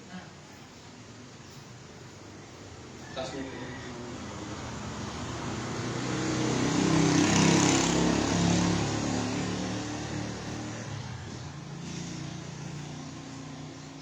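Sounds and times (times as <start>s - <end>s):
motor vehicle passing by: 2.0s - 14.0s.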